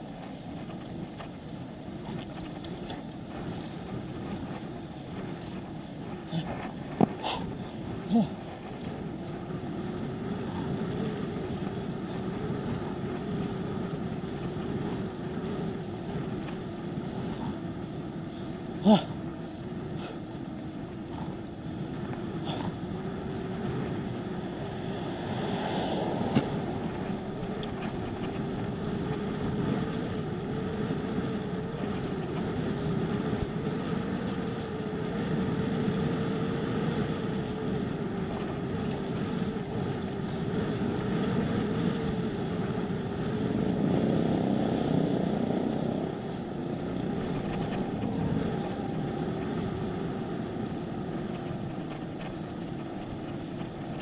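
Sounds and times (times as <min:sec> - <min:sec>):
bicycle road and wind noise: 0:00.0 - 0:54.0.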